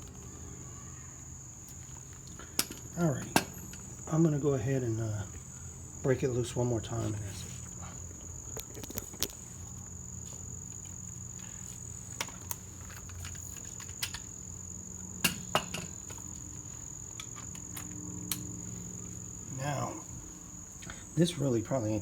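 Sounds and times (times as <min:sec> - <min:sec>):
cricket trill: 0:00.0 - 0:22.0.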